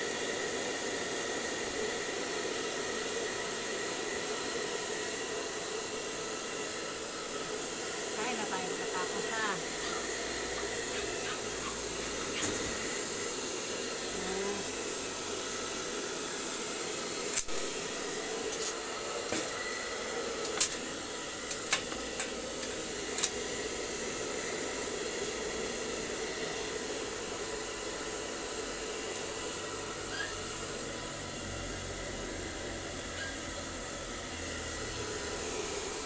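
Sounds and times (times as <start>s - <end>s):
hair dryer blowing: 0.0s - 36.0s.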